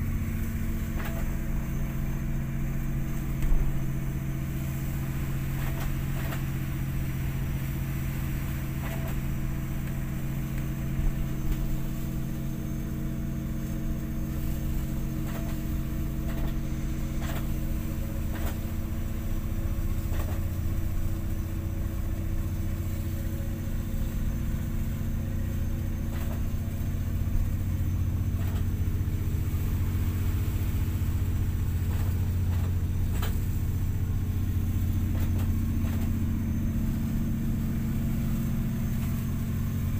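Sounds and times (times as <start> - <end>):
boat engine low hum: 0.0 - 39.9.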